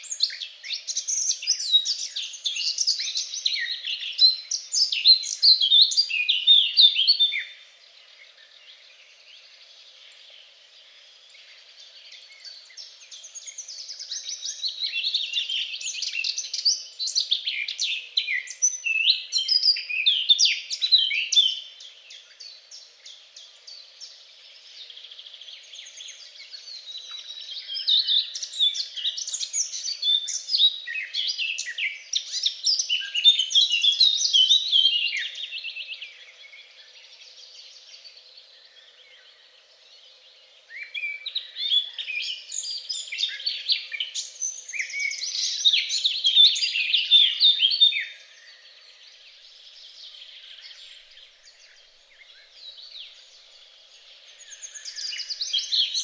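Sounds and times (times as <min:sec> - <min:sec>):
songbird singing chirps and trills: 0:00.0 - 0:56.0.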